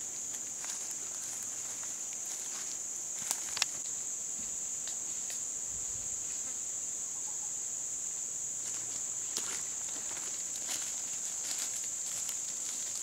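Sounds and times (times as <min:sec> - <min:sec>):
insect chorus buzzing trill: 0:00.0 - 0:13.0.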